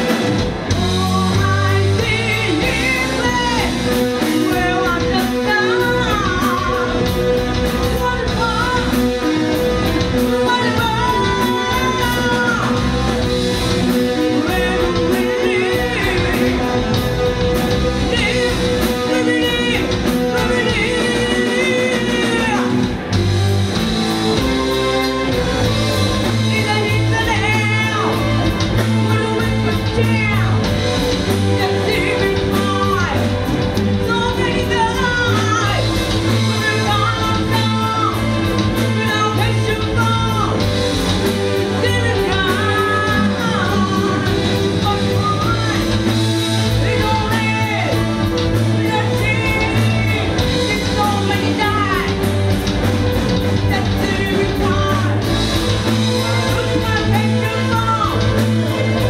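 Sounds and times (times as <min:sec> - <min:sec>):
drums: 0:00.0 - 0:59.0
electric bass: 0:00.0 - 0:59.0
electric guitar: 0:00.0 - 0:59.0
woman singing lead vocals: 0:00.0 - 0:59.0.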